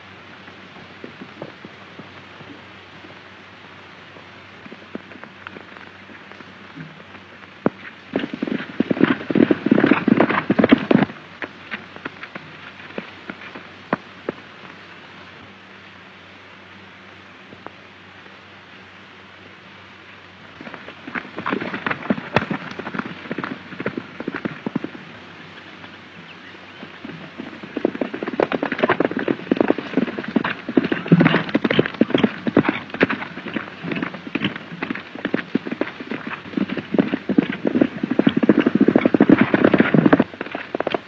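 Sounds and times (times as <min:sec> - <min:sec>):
galloping hoofbeats: 0:00.0 - 0:15.2, 0:20.5 - 0:41.0
steady hiss: 0:00.0 - 0:41.0.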